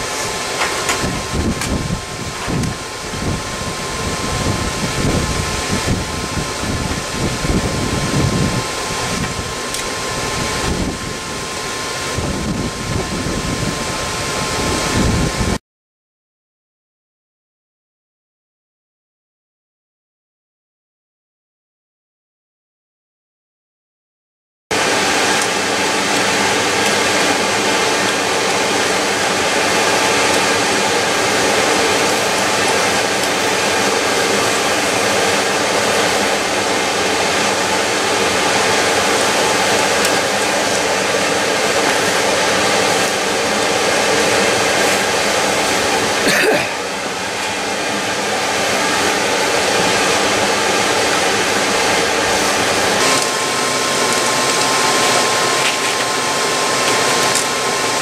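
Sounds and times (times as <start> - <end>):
forge fire roaring: 0.0 - 15.6, 24.7 - 58.0
steady hum: 0.0 - 15.6, 24.7 - 58.0.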